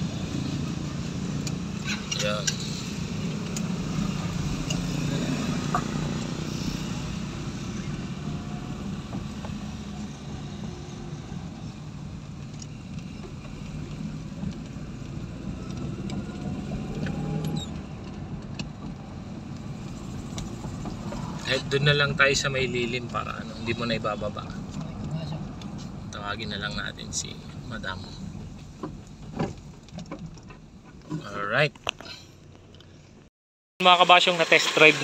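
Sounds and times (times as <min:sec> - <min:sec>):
car engine droning: 0:00.0 - 0:33.2
road noise: 0:00.0 - 0:35.0.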